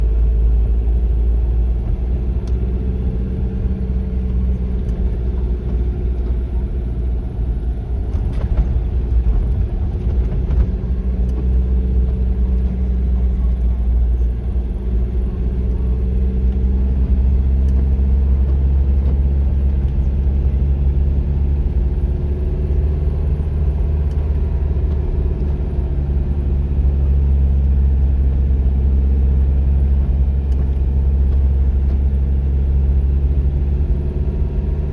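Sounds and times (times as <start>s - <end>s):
car engine rumbling: 0.0s - 34.9s.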